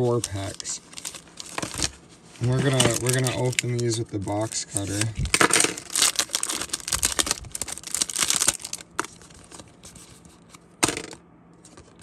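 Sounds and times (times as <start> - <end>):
foil wrapper crinkling and tearing: 0.0 - 10.5.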